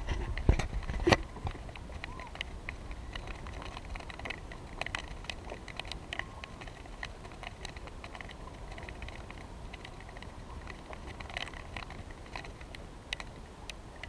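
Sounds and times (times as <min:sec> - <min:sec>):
low steady rumble: 0:00.0 - 0:14.0
waves lapping against canoe: 0:00.0 - 0:14.0.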